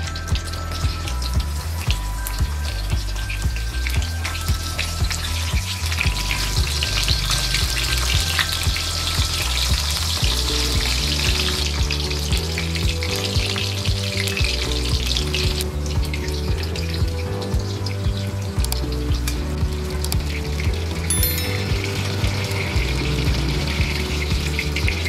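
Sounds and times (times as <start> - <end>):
background music with steady beat: 0.0 - 25.0.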